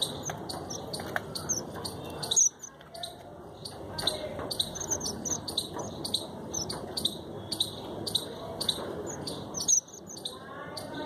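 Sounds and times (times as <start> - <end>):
birds chirping: 0.0 - 11.0
low background murmur: 0.0 - 11.0.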